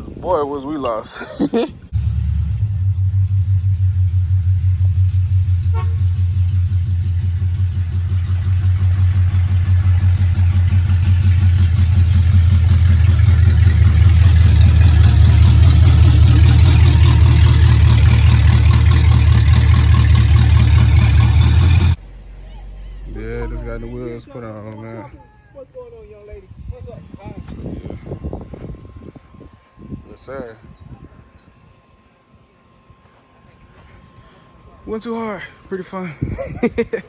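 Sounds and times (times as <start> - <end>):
car engine rumbling: 1.7 - 37.0.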